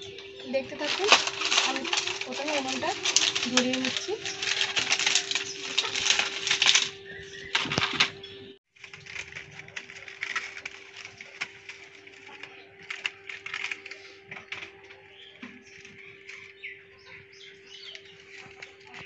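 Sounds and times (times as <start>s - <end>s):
sticks crackling in a fire: 0.0s - 19.0s.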